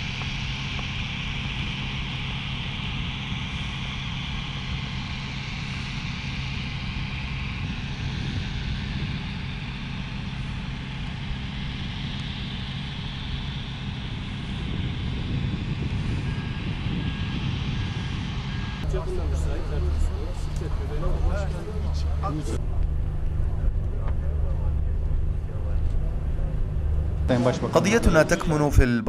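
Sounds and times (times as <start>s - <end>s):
steady engine noise: 0.0s - 29.0s.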